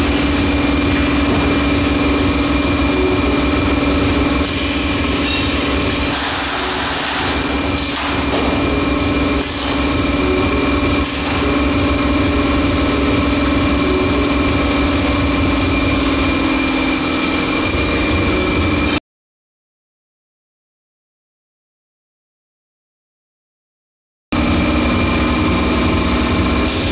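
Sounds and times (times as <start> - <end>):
machine motor hum with whine: 0.0 - 19.0, 24.4 - 26.9.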